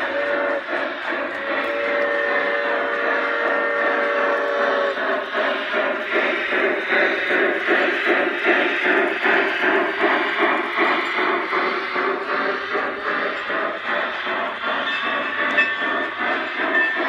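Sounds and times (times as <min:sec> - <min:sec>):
model steam locomotive chuffing: 0:00.0 - 0:17.0.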